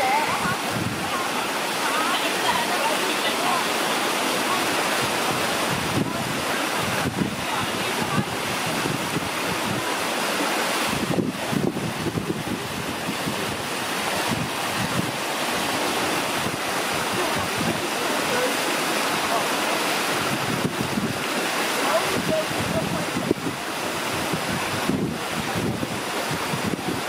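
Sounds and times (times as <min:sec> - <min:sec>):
wind buffeting microphone: 0:00.0 - 0:02.7, 0:04.2 - 0:27.0
steady rushing noise: 0:00.0 - 0:27.0.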